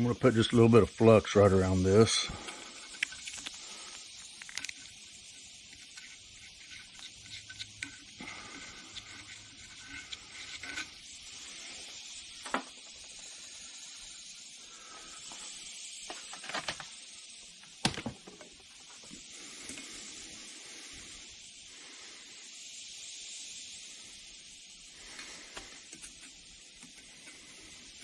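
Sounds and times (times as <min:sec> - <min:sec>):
steady faint hiss: 0:00.0 - 0:28.0.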